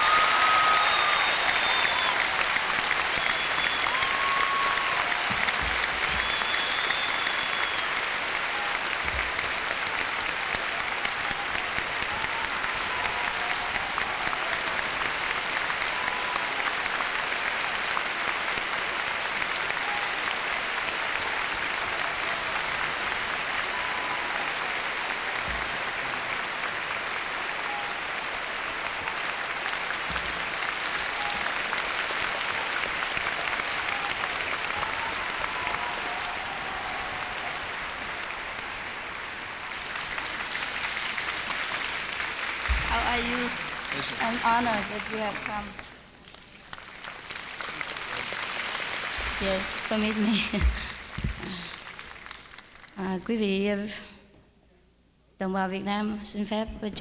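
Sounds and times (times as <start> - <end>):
audience applauding: 0.0 - 53.2.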